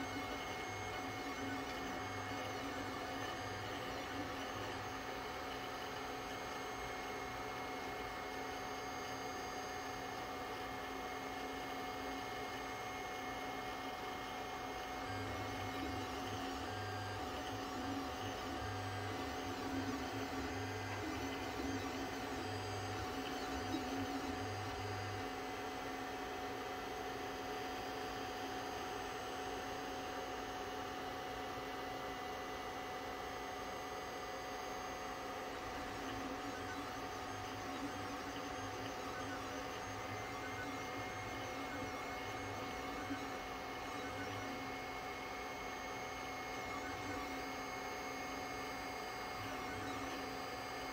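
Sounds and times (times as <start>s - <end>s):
three d printer humming: 0.0s - 50.9s.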